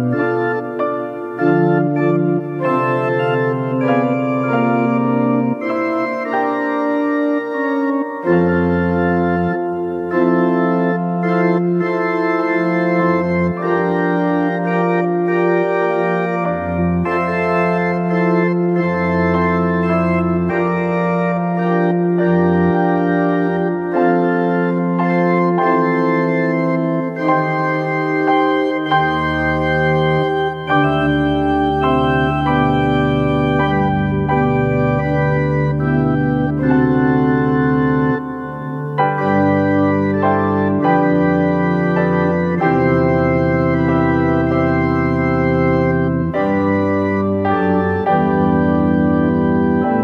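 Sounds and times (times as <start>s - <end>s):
deep organ bass pedal notes: 0.0s - 50.0s
organ chords: 0.0s - 50.0s.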